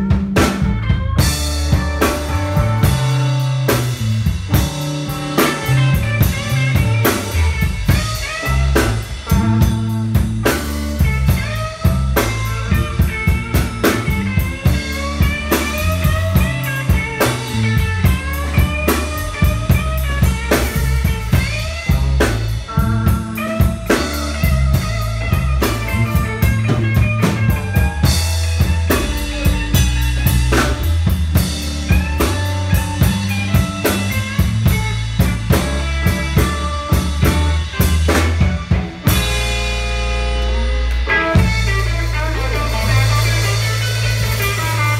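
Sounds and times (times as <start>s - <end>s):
drum kit steady beat: 0.0s - 44.9s
electric bass: 0.0s - 44.9s
electric guitar lead: 0.0s - 44.9s.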